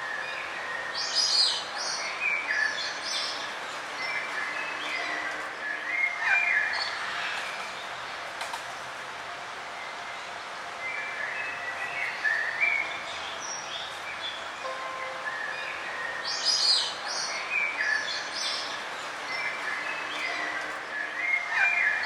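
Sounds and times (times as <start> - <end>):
songbirds chirping and whistling: 0.0 - 8.0, 10.8 - 22.0.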